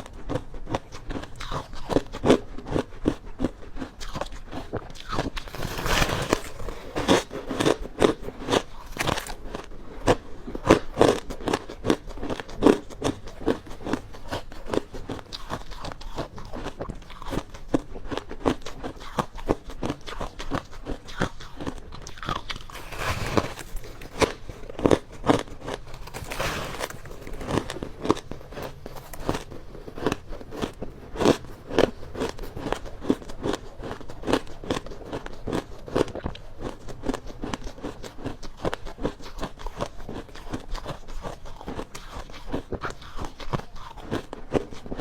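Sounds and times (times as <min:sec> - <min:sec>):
ice being bitten and chewed: 0:00.0 - 0:45.0.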